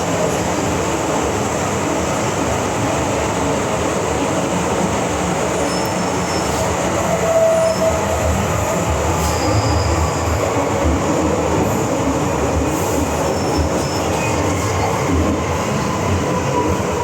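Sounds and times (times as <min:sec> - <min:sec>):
train rumble in tunnel: 0:00.0 - 0:17.0.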